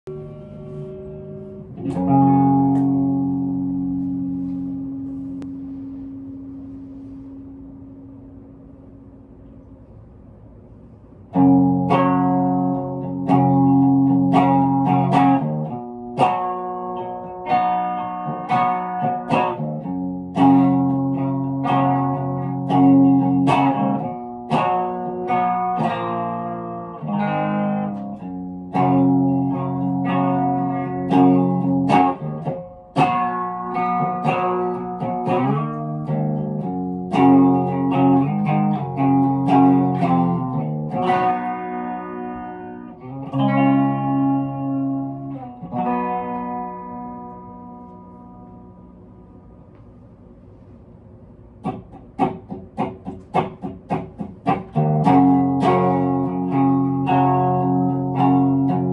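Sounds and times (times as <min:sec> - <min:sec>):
electric guitar melody: 0:00.0 - 0:09.7, 0:11.2 - 0:50.2, 0:51.5 - 0:58.9.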